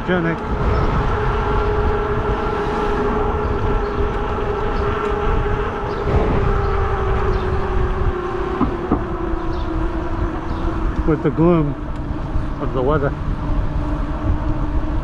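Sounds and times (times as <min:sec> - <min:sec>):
electric bike motor whine: 0:00.0 - 0:15.0
wind rumble on microphone: 0:00.0 - 0:15.0.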